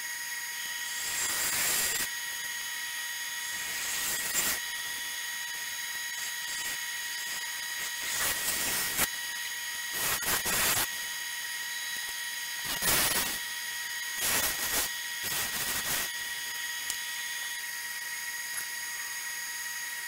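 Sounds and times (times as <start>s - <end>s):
tool cutting spinning wood: 0.0s - 20.0s
wood lathe whining: 0.0s - 20.0s.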